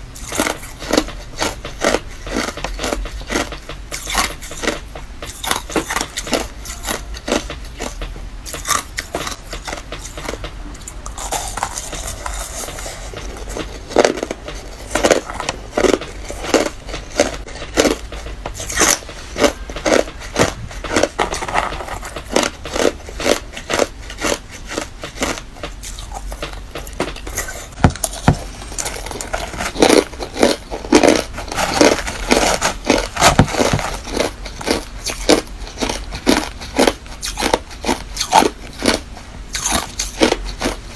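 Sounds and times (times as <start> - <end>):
low steady hum: 0.0 - 40.9
chewing crunchy ice: 0.1 - 40.9.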